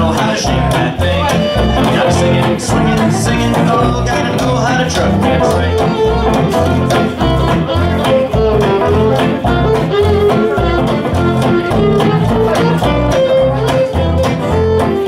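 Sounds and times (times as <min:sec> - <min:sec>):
acoustic guitar chords: 0:00.0 - 0:15.0
melodic lead line: 0:00.0 - 0:15.0
upright bass walking: 0:00.0 - 0:15.0
fiddle: 0:00.2 - 0:15.0.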